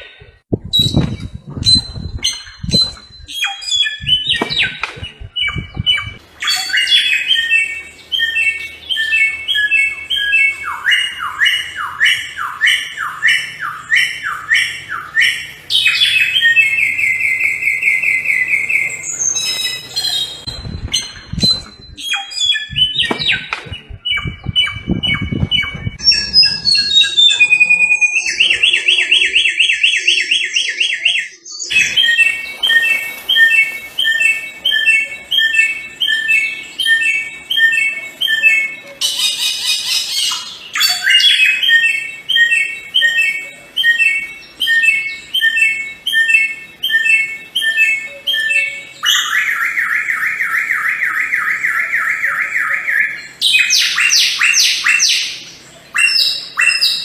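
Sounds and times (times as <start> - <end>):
bird singing with whistles and trills: 0.0 - 57.0.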